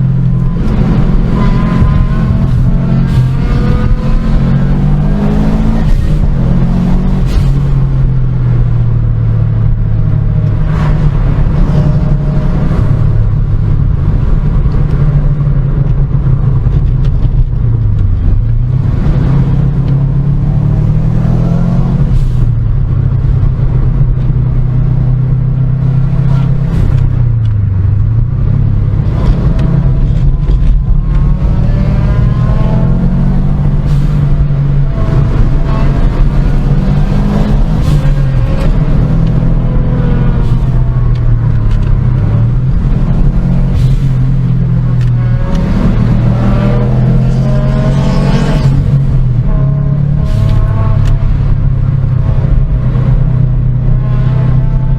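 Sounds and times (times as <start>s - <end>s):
car engine droning: 0.0s - 54.9s.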